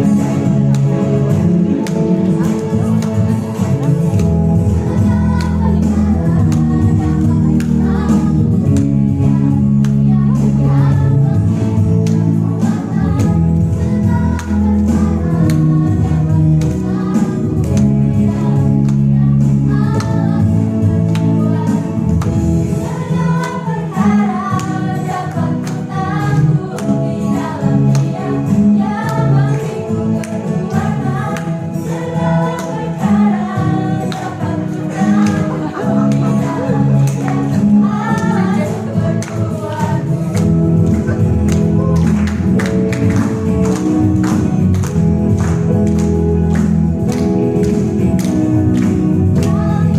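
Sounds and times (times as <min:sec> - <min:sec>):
choir singing: 0:00.0 - 0:42.1
percussion beat: 0:00.0 - 0:49.9.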